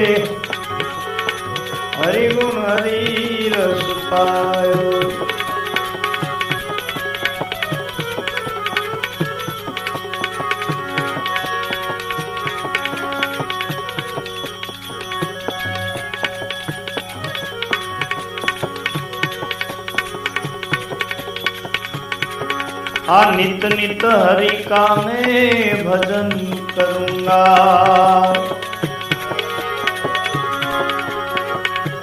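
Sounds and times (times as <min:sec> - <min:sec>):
steady drum rhythm: 0:00.0 - 0:32.0
sustained melodic instrument lines: 0:00.0 - 0:32.0.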